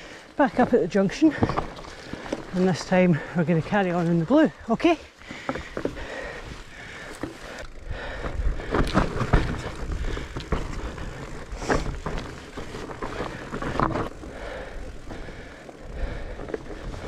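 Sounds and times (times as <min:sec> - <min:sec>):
bike knocking and rattling: 0:00.0 - 0:17.0
bike tyres on dirt trail: 0:00.0 - 0:17.0.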